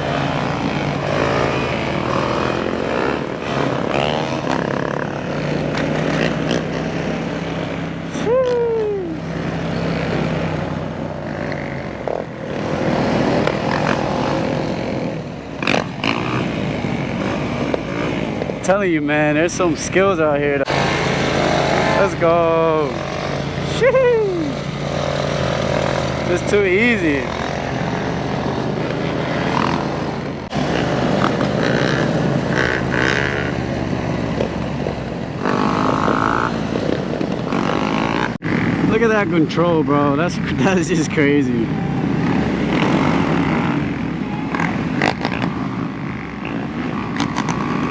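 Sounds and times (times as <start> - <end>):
motorcycle engines running: 0.0 - 47.9.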